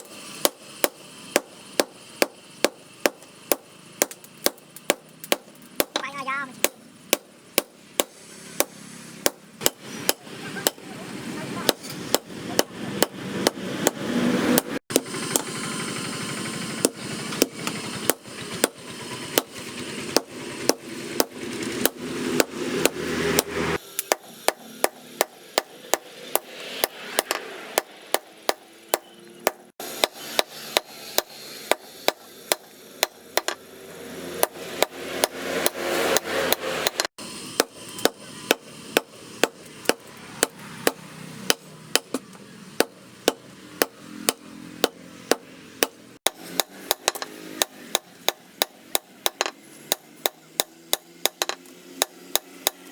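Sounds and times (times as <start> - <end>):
hammer striking steel on anvil: 0.0 - 11.0, 11.6 - 15.5, 16.8 - 33.7, 34.3 - 52.9.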